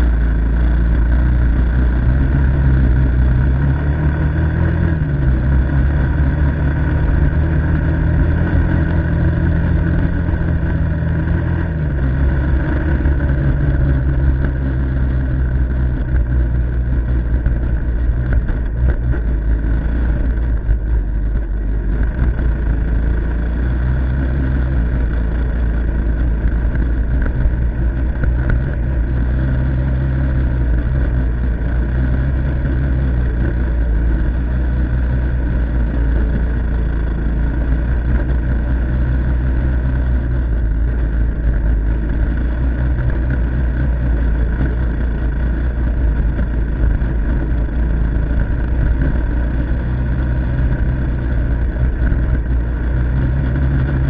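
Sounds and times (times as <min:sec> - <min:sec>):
single-cylinder engine running: 0:00.0 - 0:54.0.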